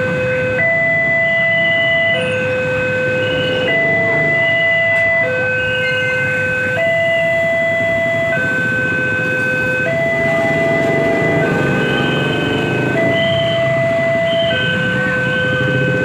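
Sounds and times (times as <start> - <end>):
hi-lo two-tone warning alarm: 0.0 - 16.0
low rumble of traffic: 0.0 - 16.0.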